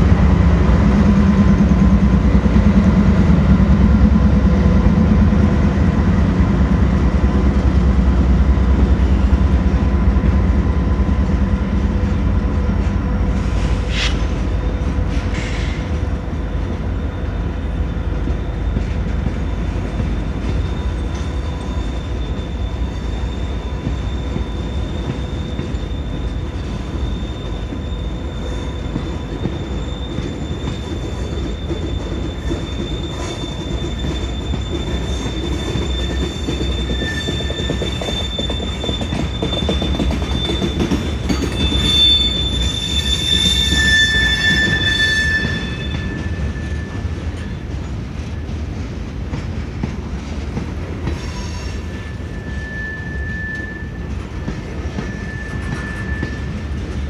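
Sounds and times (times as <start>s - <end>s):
freight train rumbling by: 0.0s - 57.0s
train wheels squealing: 6.9s - 48.5s, 50.0s - 57.0s.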